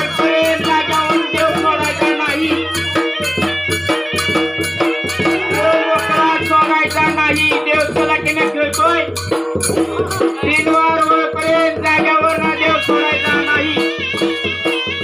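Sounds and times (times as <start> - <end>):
voices singing: 0.0 - 3.1, 4.8 - 9.1, 9.7 - 15.0
drum beaten with a stick: 0.0 - 15.0
jingling rattle percussion: 0.0 - 15.0.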